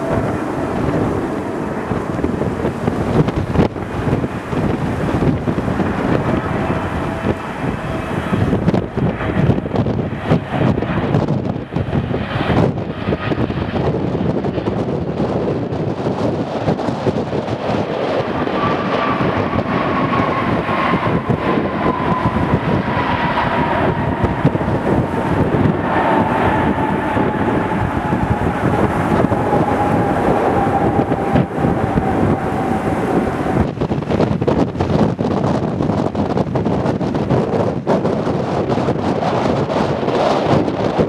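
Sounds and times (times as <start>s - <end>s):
jet engines whining: 0.0s - 41.0s
wind buffeting microphone: 0.0s - 41.0s.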